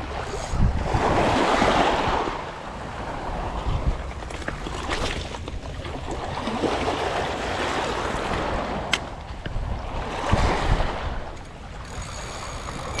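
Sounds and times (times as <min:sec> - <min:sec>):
waves washing on stony shore: 0:00.0 - 0:08.9, 0:09.6 - 0:12.3
wind buffeting microphone: 0:00.0 - 0:13.0.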